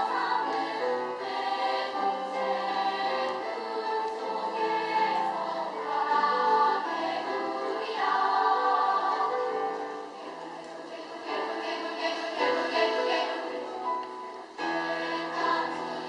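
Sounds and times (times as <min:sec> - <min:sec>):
children's choir singing: 0:00.0 - 0:16.0.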